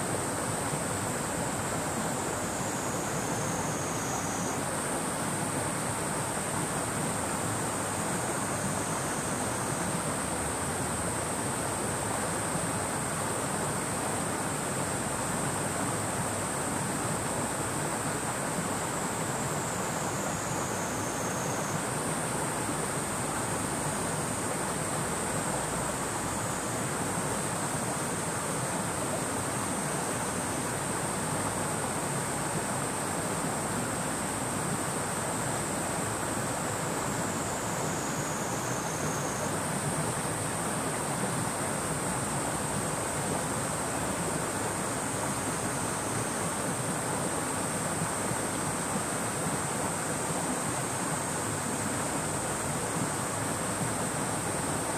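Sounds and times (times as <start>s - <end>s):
cicada buzzing: 0.0s - 10.1s, 14.5s - 31.9s, 32.8s - 54.9s
river water flowing: 0.0s - 54.9s.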